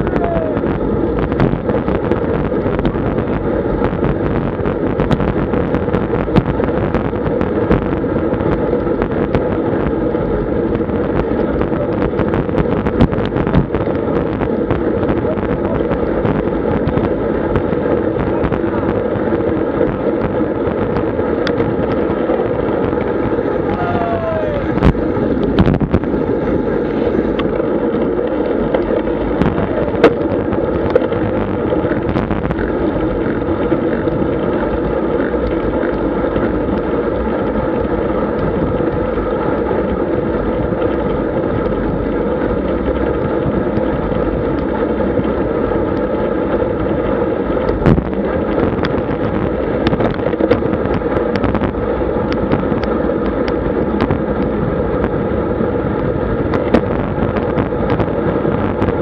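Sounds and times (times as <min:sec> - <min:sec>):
road rumble: 0:00.0 - 0:59.0
wind rush: 0:00.0 - 0:59.0.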